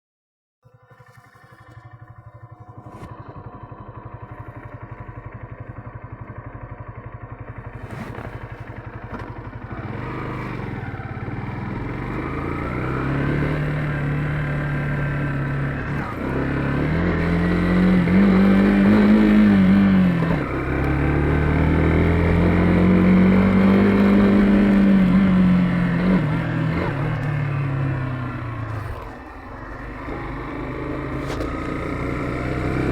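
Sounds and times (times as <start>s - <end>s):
motorcycle engine revving: 0.9s - 32.9s.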